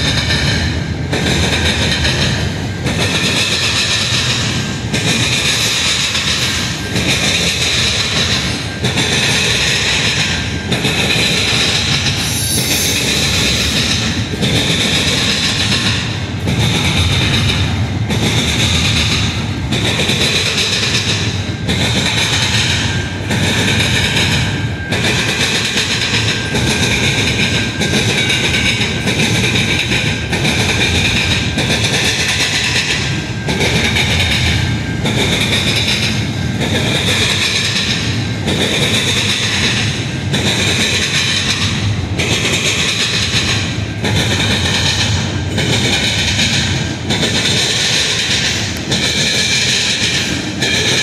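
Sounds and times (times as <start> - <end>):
freight cars rumbling on rails: 0.0 - 51.0.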